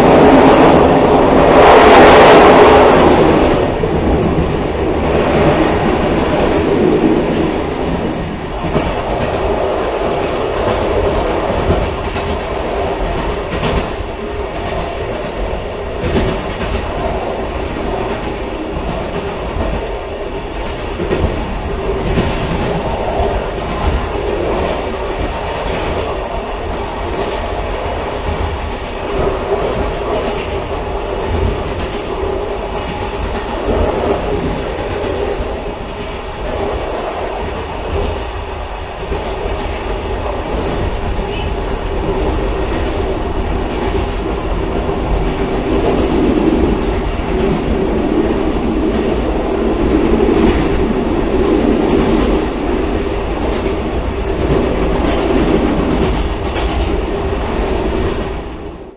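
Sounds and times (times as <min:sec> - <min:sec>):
railcar low rumble: 0:00.0 - 0:58.9.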